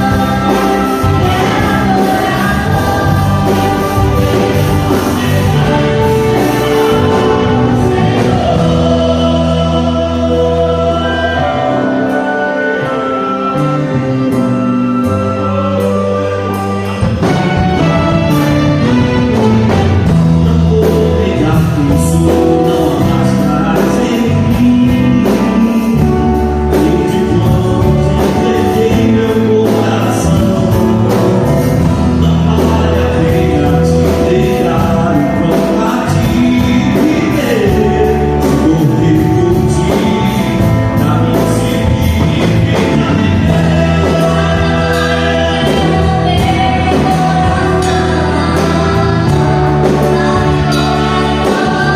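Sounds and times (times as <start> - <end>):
gospel singing with instruments: 0.0 - 51.9.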